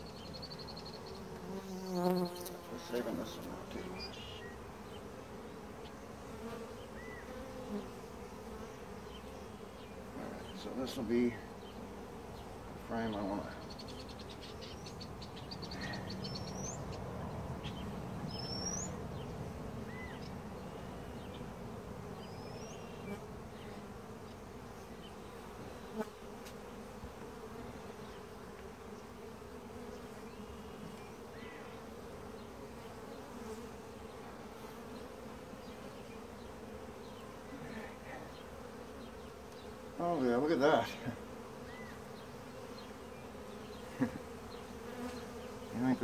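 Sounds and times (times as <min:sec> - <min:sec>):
bees buzzing: 0:00.0 - 0:46.0.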